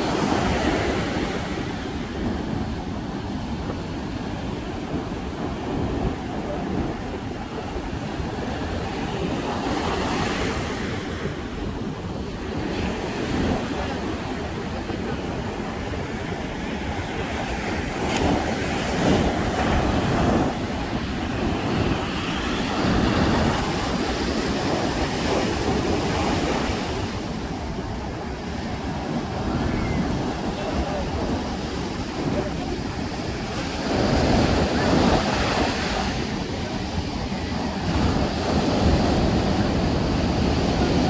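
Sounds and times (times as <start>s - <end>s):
surf breaking on beach: 0.0s - 41.0s
wind on microphone: 0.0s - 41.0s.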